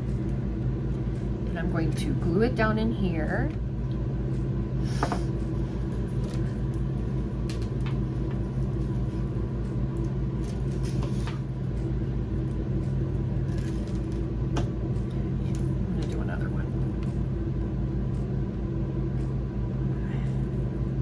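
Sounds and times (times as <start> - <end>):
low machine hum with rapid pulsing: 0.0 - 21.0.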